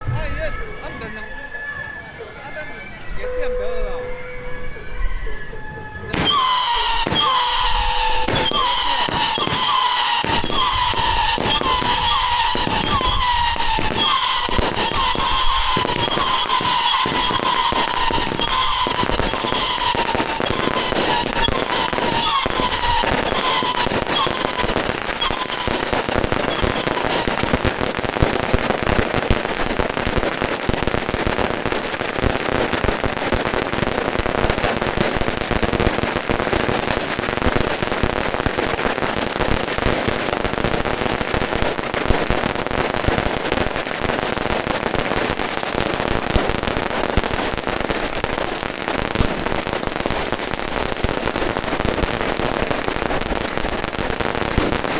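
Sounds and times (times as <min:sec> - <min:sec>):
firecrackers crackling: 0:00.0 - 0:54.9
whistling fireworks: 0:00.0 - 0:54.9.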